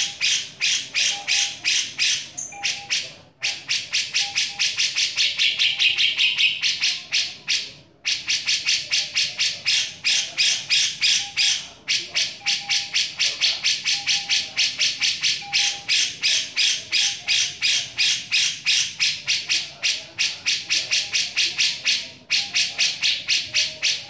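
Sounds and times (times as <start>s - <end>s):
bird rasping chatter: 0.0s - 24.0s.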